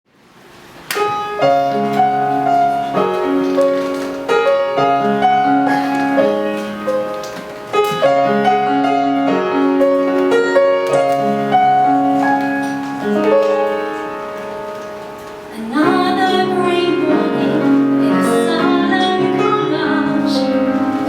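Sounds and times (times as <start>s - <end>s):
piano chords and melody: 0.6s - 21.0s.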